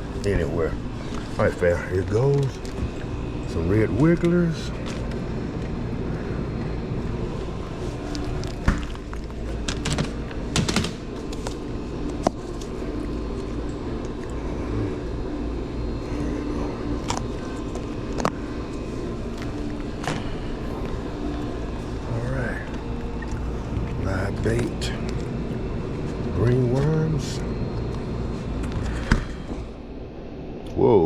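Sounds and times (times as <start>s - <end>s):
low store hum: 0.0s - 31.0s.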